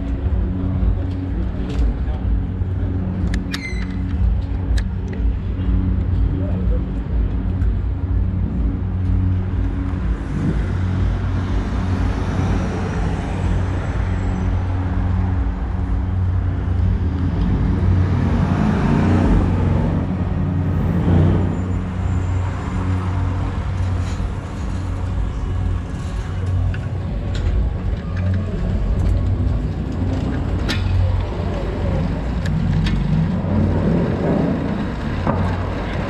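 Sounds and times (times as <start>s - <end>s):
traffic engine hum: 0.0s - 36.0s.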